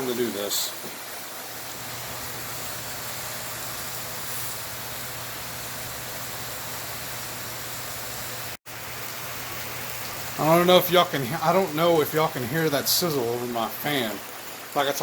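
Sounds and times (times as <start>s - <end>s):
electric fan whooshing: 0.0s - 15.0s
steak sizzling on griddle: 0.0s - 15.0s.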